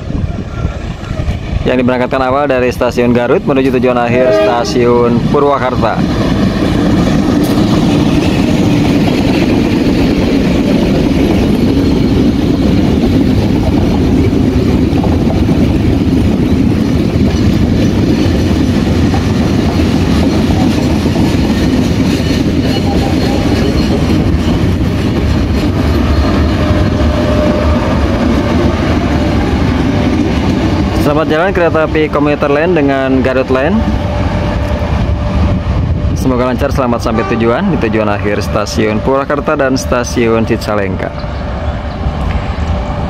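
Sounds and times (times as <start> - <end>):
diesel locomotive engines: 0.0 - 43.0
train wheels rumbling on rails: 0.0 - 43.0.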